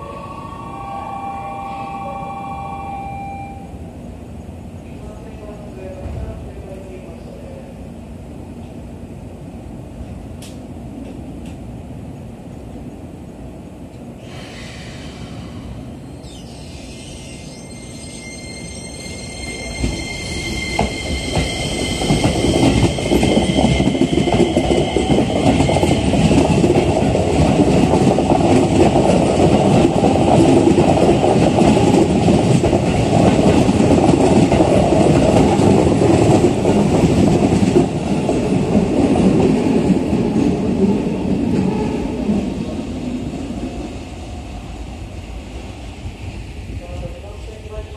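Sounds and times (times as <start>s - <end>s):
train wheels rumbling on rail: 4.1s - 47.9s.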